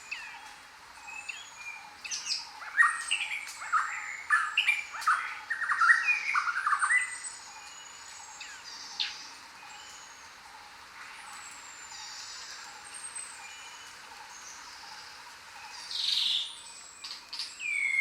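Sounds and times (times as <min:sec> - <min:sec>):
steady hiss: 0:00.0 - 0:18.0
wild birds chattering and squawking: 0:00.0 - 0:18.0.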